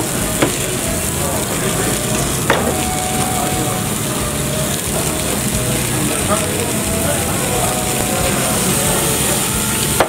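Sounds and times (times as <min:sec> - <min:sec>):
meat sizzling on a grill: 0:00.0 - 0:10.0.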